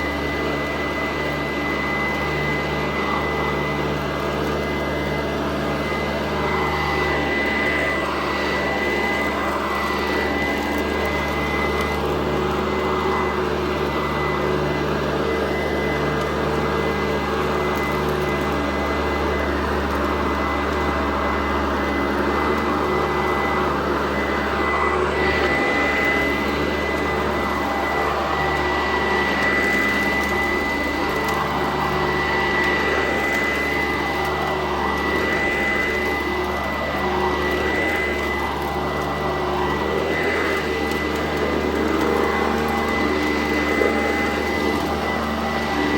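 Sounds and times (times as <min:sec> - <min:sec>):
high motor whine: 0:00.0 - 0:45.9
vacuum cleaner running: 0:00.0 - 0:45.9.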